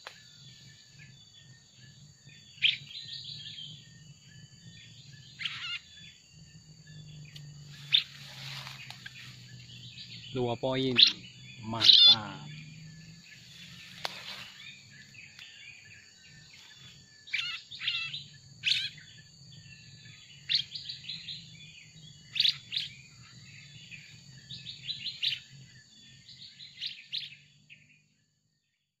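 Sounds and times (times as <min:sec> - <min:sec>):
bird chirping song: 0:00.0 - 0:29.0.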